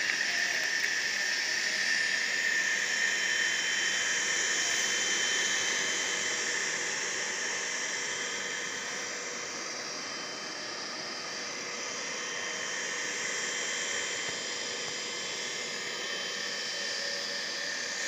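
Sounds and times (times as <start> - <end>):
electric water pump whirring: 0.0 - 18.0.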